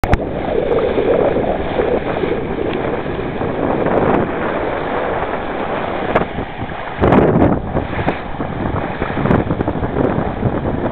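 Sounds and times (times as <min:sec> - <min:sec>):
water splashing along hull: 0:00.0 - 0:10.9
wind buffeting microphone: 0:00.0 - 0:10.9.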